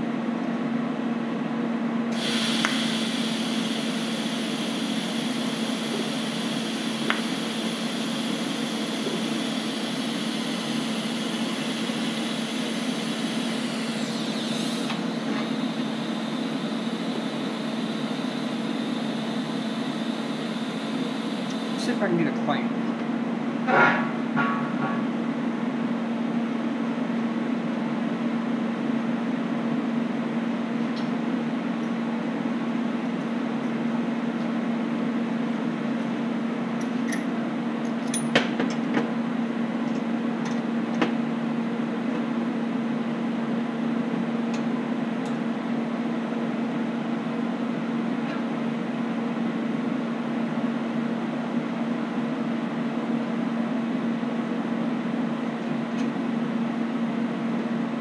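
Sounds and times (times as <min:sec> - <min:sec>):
mechanical hum of shop equipment: 0:00.0 - 0:58.0.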